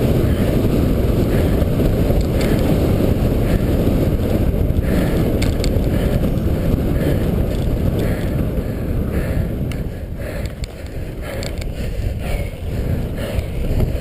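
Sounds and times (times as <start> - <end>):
wind buffeting microphone: 0.0 - 14.0
bike rattling clicks: 0.1 - 14.0.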